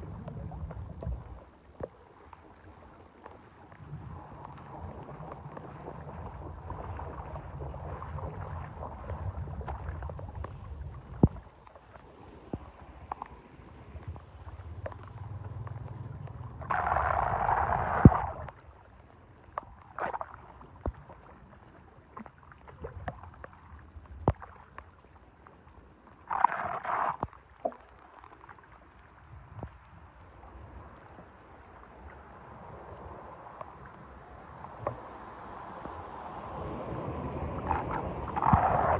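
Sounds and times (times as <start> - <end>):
water sloshing and gurgling: 0.0 - 38.9.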